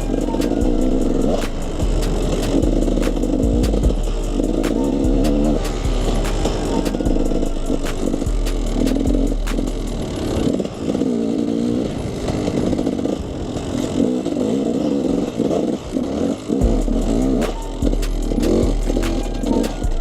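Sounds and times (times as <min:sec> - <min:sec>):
two-stroke dirt bike engine revving: 0:00.0 - 0:20.0.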